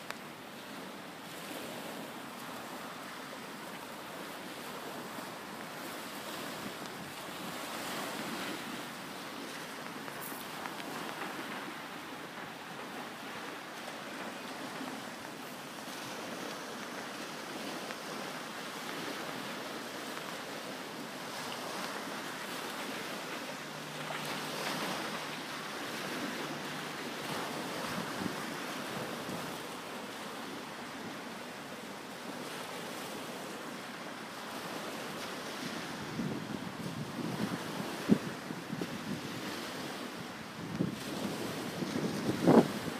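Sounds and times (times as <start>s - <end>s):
small waves washing up shingle: 0.0s - 42.9s
wind on microphone: 3.6s - 31.2s, 34.6s - 42.9s.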